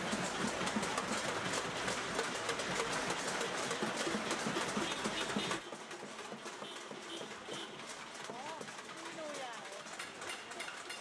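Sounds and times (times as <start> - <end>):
people banging on pots and pans: 0.0 - 11.0.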